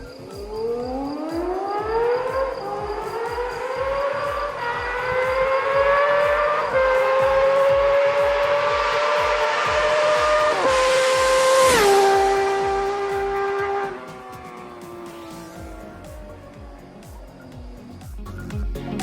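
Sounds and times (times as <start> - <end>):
motorcycle engine revving: 0.0 - 18.2
low regular beat: 0.0 - 19.0.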